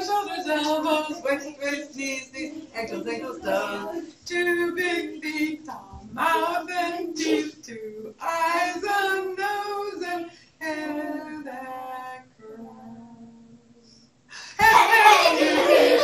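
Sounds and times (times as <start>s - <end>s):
woman and children singing: 0.0s - 13.7s, 14.5s - 16.0s.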